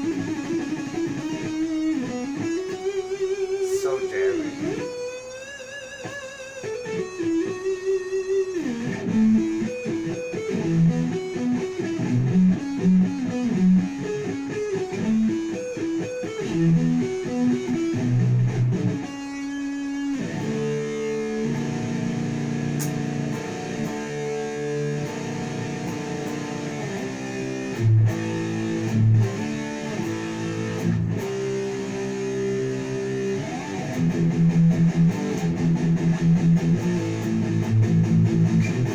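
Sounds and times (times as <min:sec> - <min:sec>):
electric guitar with chorus and reverb: 0:00.0 - 0:38.9.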